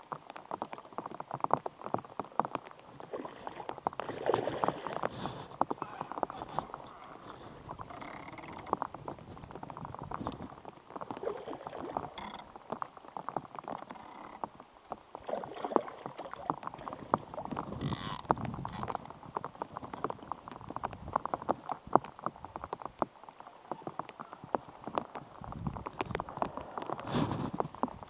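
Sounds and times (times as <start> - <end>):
sharp raindrop taps: 0.0 - 15.3, 16.2 - 28.0
rain falling: 0.0 - 28.0.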